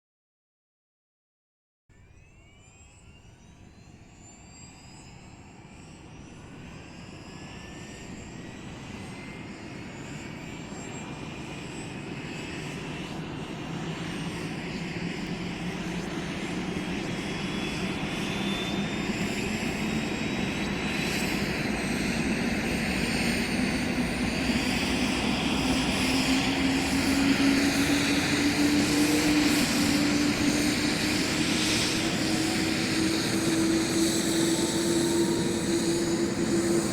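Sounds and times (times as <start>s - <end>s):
helicopter engine starting up: 1.9s - 36.9s.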